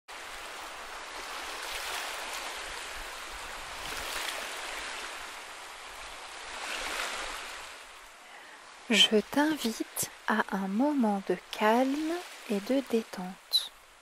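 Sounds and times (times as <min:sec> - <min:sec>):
sea waves washing onto beach: 0:00.1 - 0:14.0.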